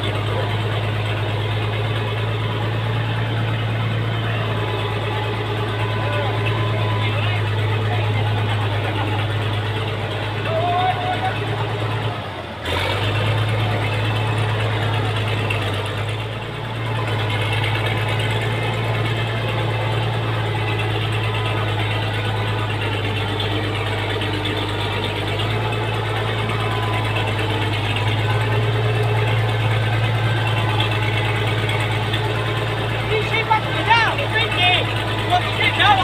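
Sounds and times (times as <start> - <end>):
tractor engine droning: 0.0 - 36.0.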